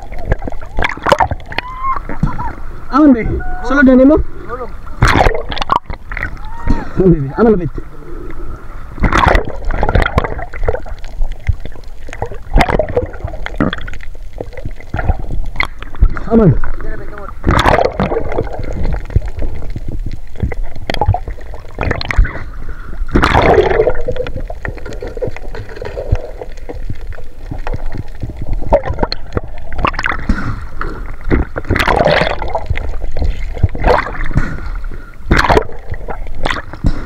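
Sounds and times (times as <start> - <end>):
seawater sloshing and splashing: 0.0 - 2.7, 9.0 - 37.0.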